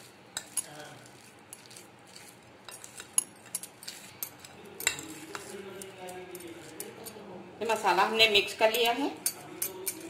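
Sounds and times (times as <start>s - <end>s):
hand mixing food in a bowl: 0.0s - 10.0s.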